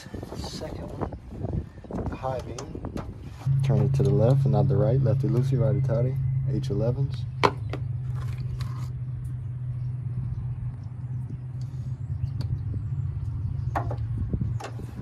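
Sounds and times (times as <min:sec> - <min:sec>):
steady low hum: 0:01.0 - 0:15.0.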